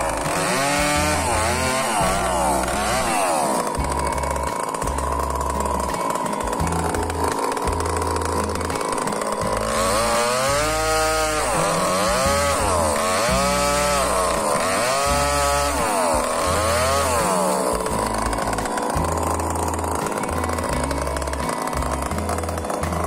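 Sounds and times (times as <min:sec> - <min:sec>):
chainsaw revving and cutting log: 0:00.0 - 0:23.0.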